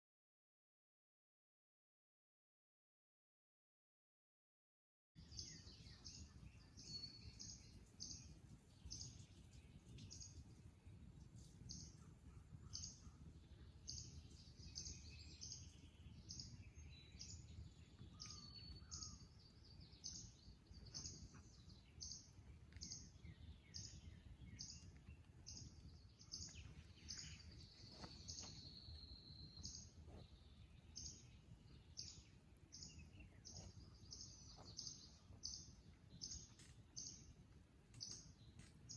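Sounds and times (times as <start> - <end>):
birds chirping: 5.2 - 38.9.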